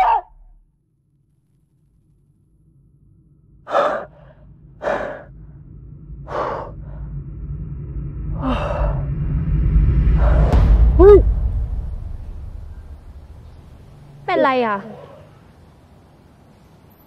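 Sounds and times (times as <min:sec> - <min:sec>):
low rumble: 0:00.0 - 0:14.8.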